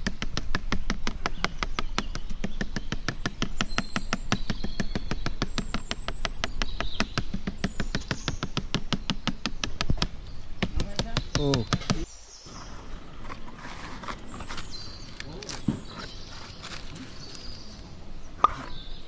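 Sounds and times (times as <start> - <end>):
birds chirping faintly: 0.5 - 19.0.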